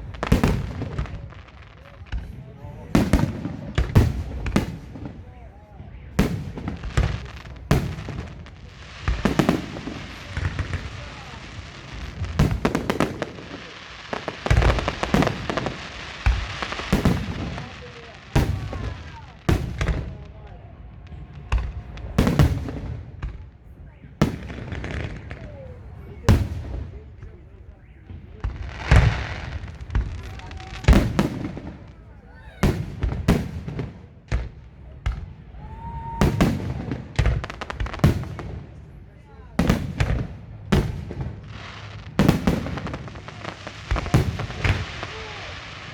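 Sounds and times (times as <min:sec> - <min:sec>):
fireworks bursting with bangs: 0:00.0 - 0:45.9
fireworks crackling: 0:00.0 - 0:45.9.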